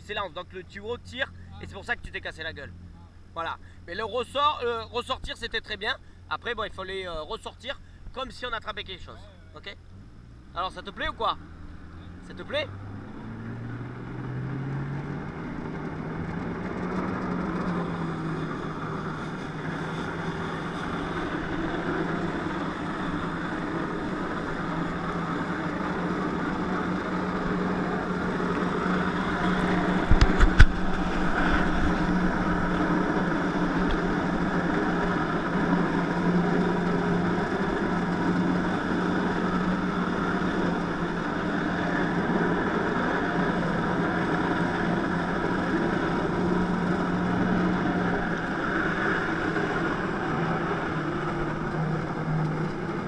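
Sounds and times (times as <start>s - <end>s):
jet ski engine revving: 8.4s - 53.0s.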